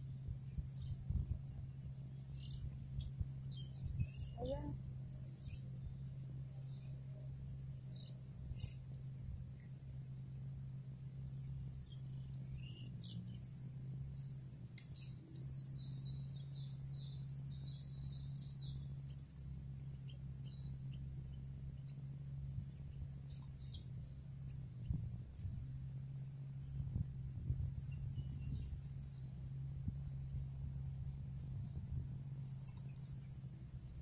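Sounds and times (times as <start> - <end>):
steady low hum: 0.0 - 34.0
small birds chirping: 0.4 - 10.4, 11.2 - 34.0.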